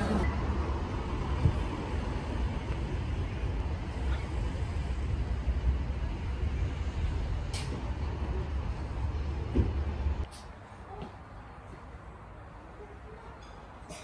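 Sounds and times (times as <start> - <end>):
low outdoor rumble: 0.0 - 13.8.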